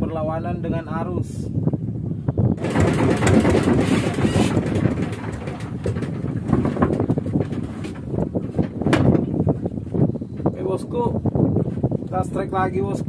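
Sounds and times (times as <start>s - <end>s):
wind buffeting microphone: 0.0s - 13.0s
boat engine rumbling: 1.5s - 13.0s.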